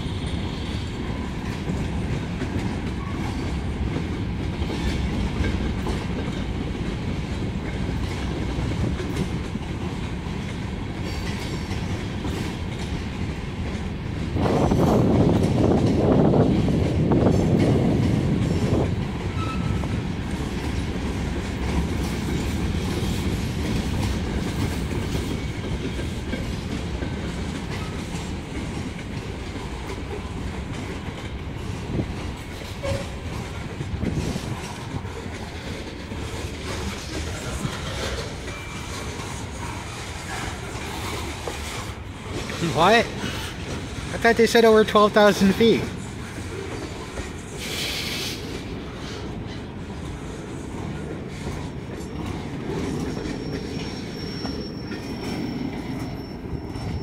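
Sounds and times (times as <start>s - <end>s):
train clicks: 0.0s - 57.0s
train wheels rumbling on rail: 0.0s - 57.0s.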